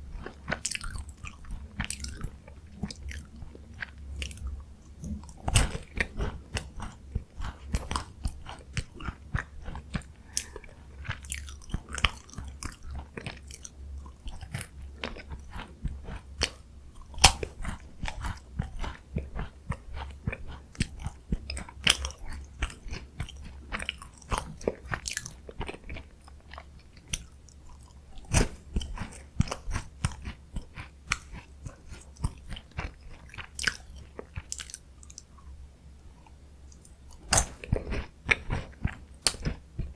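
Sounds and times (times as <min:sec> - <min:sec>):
crunchy biscuit chewing: 0:00.0 - 0:39.9.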